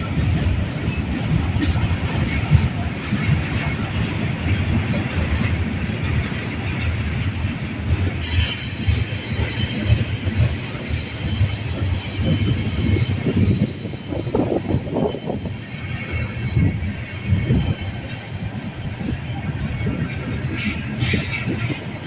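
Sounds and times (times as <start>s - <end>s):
freight train rumbling past: 0.0s - 22.0s
wheels squealing on rails: 0.0s - 22.0s.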